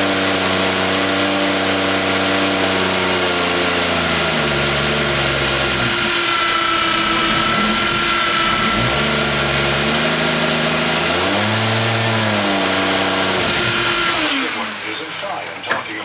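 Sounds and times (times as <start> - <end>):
car engine revving: 0.0 - 16.0
high turbo whine: 0.0 - 16.0.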